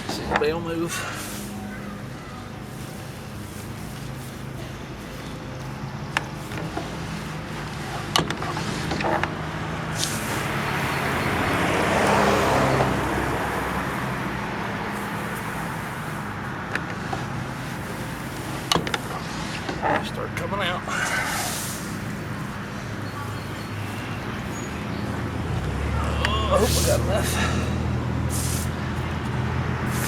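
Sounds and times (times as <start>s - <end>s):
vehicle passing: 0.0s - 30.0s.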